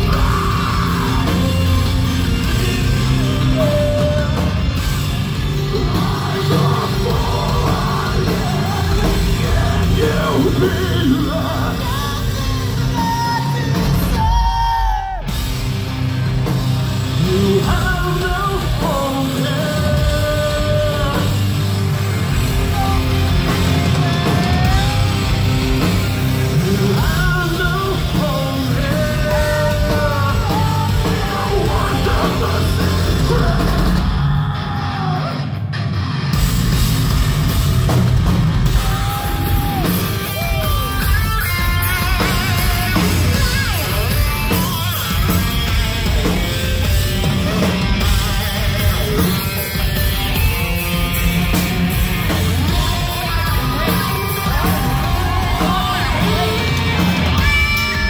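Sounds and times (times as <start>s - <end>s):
lead vocalist singing and yelling: 0.0s - 35.7s, 38.5s - 58.0s
bass guitar: 0.0s - 58.0s
distorted electric guitars: 0.0s - 58.0s
drums: 0.0s - 58.0s.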